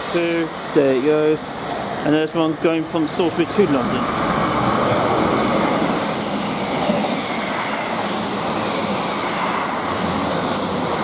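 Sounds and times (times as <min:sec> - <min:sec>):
diesel train passing at speed: 0:00.0 - 0:11.0.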